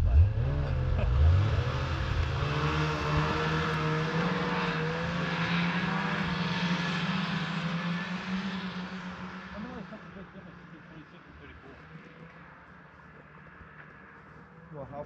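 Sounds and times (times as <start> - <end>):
snowmobile engine: 0.0 - 15.0.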